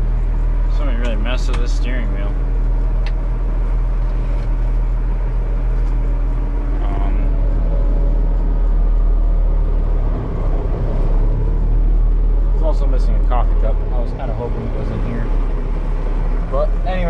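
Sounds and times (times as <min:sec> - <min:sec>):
tractor engine humming: 0:00.0 - 0:17.0.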